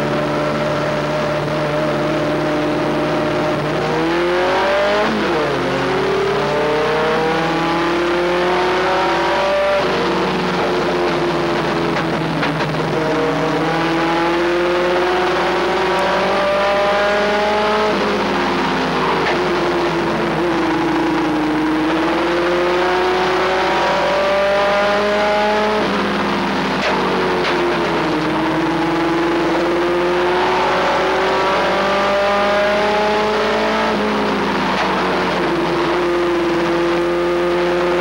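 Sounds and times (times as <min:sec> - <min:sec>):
race truck engine revving: 0:00.0 - 0:38.0.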